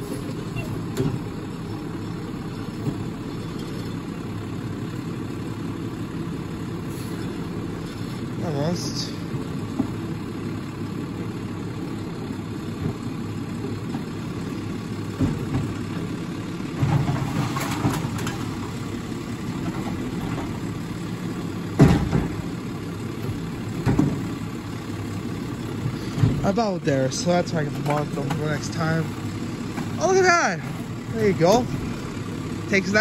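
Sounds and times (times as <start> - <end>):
garbage truck engine running: 0.0 - 33.0.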